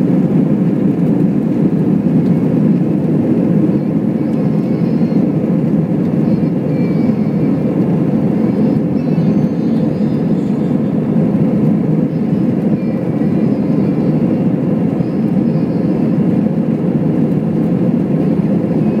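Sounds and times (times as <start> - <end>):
airplane cabin engine roar: 0.0 - 19.0.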